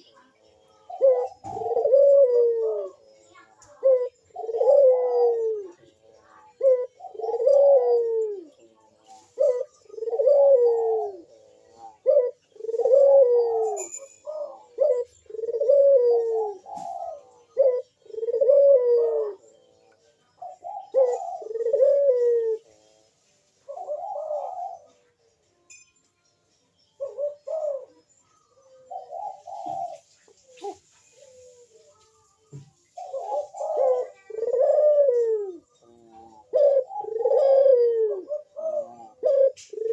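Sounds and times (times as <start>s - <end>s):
dove cooing: 0.0s - 25.3s, 27.0s - 39.9s.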